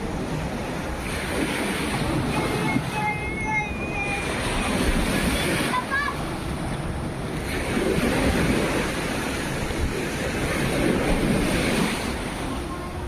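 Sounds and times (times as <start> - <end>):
waves washing in: 0.0 - 13.0
wind on microphone: 0.0 - 13.0.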